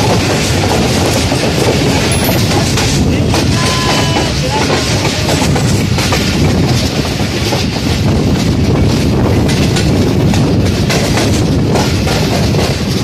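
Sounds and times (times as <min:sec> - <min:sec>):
clatter over rail joints: 0:00.0 - 0:13.0
train wheels rumbling on rails: 0:00.0 - 0:13.0.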